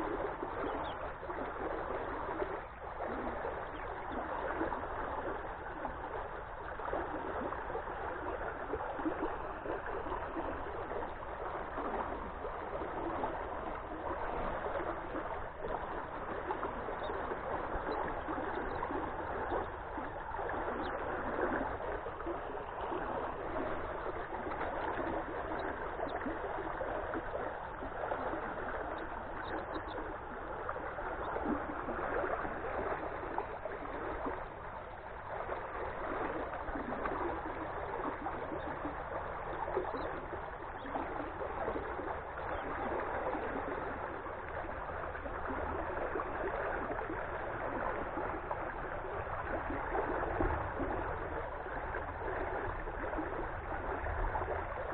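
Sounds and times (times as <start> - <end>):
floodwater rushing over pipe: 0.0 - 54.9.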